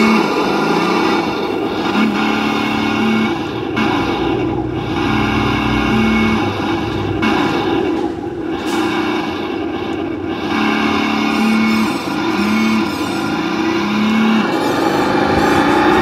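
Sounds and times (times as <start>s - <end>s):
toy truck motor drone: 0.0s - 16.0s.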